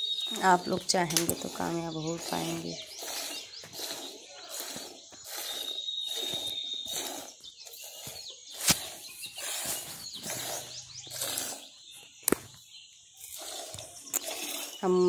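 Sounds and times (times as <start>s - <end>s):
milk squirting into pail: 0.3s - 11.7s, 13.2s - 14.8s.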